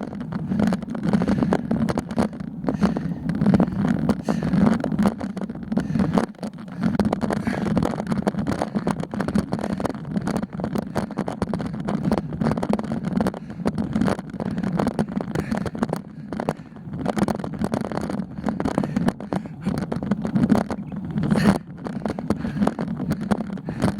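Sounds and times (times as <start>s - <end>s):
bike knocks and rattles: 0.0s - 23.9s
road rumble: 0.0s - 23.9s
wind: 0.0s - 23.9s.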